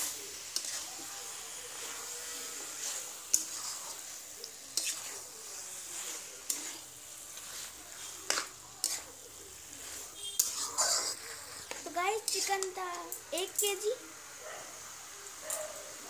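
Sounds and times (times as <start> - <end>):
metal spoon scraping pan: 0.0 - 13.6
food sizzling in pan: 0.0 - 16.0.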